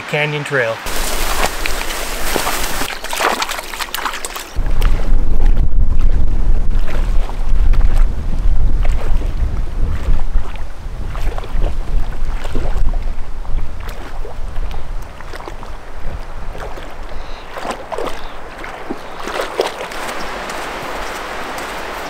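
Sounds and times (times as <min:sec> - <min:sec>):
dog splashing through water: 0:00.9 - 0:22.0
wind rumbling on microphone: 0:00.9 - 0:22.0.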